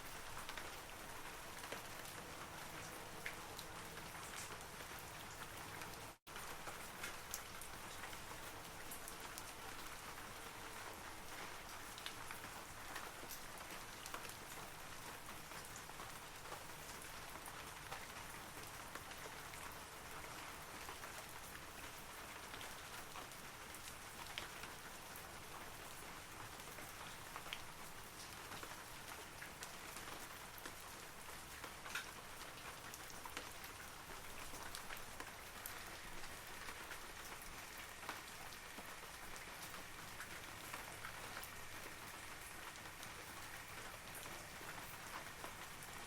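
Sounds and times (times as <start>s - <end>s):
rain falling on trees: 0.0s - 46.0s.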